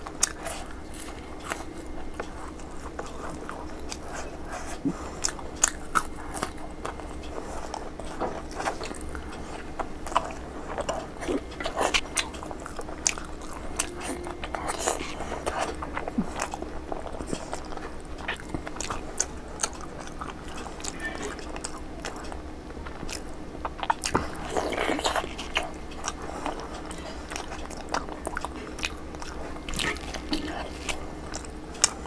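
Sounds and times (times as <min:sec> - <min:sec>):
wet chewing with mouth clicks: 0:00.0 - 0:32.0.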